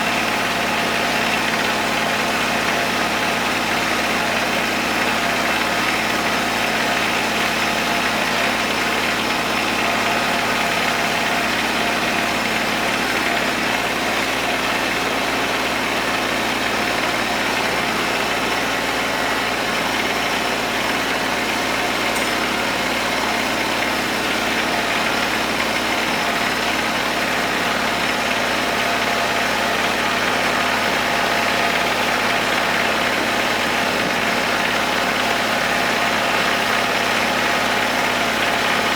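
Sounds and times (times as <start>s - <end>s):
hay tedder rotors turning: 0.0s - 38.9s
tractor diesel engine humming: 0.0s - 38.9s.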